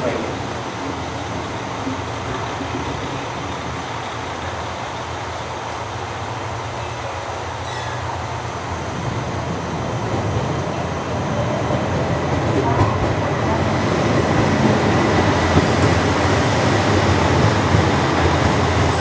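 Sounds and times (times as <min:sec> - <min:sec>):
diesel train drone: 0:00.1 - 0:19.0.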